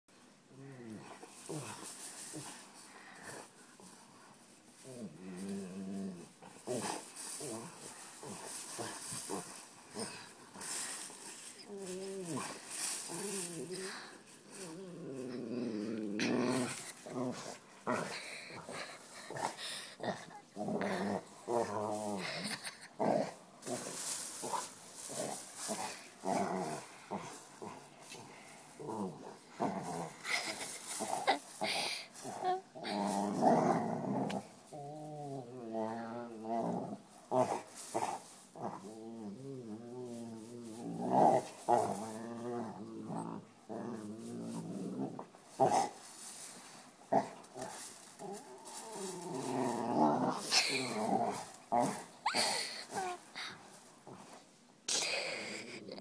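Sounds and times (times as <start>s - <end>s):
gravel scraping: 1.0s - 54.4s
dog grumbling and growling: 4.8s - 46.3s, 47.1s - 54.4s.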